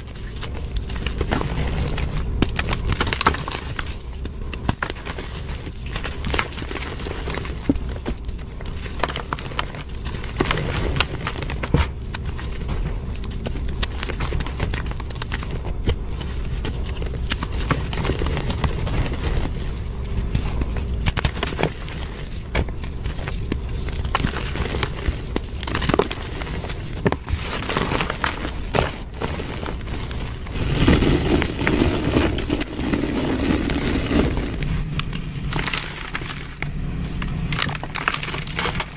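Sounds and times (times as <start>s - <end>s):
chalk crunching and crackling: 0.0s - 38.9s.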